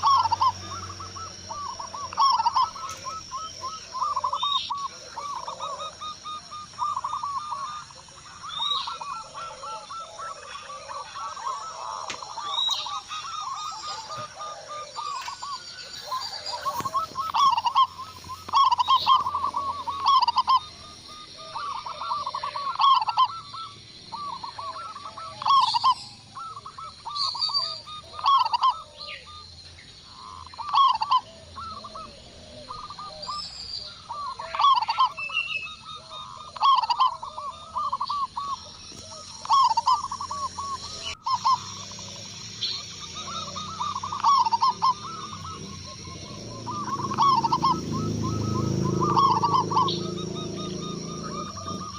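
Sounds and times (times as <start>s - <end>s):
doves cooing: 0.0s - 51.9s.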